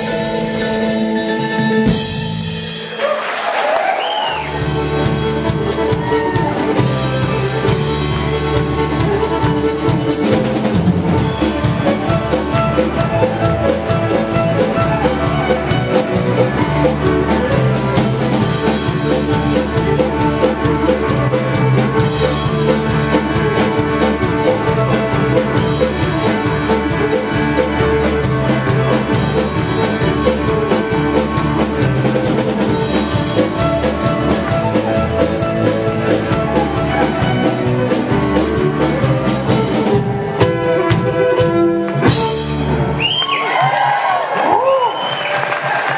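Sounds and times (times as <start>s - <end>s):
band playing instrumental music: 0.0s - 45.9s
drum kit beat: 4.3s - 44.0s.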